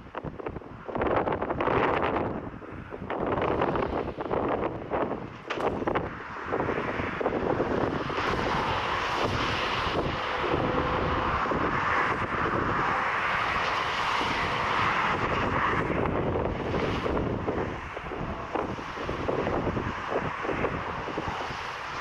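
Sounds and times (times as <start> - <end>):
airliner engines rushing: 0.0 - 22.0
wind buffeting microphone: 0.0 - 22.0.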